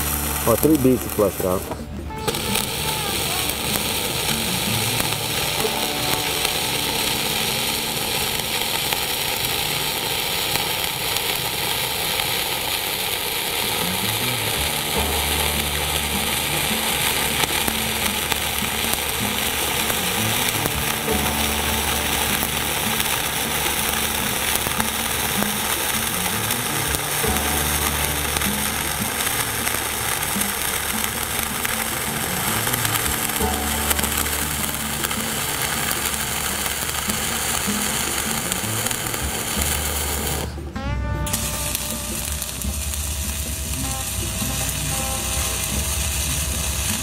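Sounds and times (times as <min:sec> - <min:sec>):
low bass notes: 0:00.0 - 0:11.8, 0:13.4 - 0:47.0
welding arc crackling sizzle: 0:00.0 - 0:47.0.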